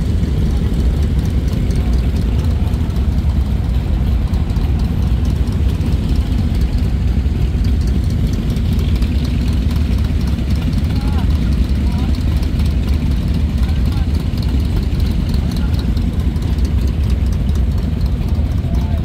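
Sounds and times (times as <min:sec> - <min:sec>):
motorcycles idling: 0:00.0 - 0:19.0.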